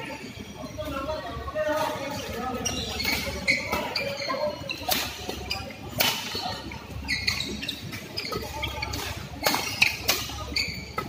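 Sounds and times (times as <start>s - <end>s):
shoes squeaking on court: 1.8s - 11.0s.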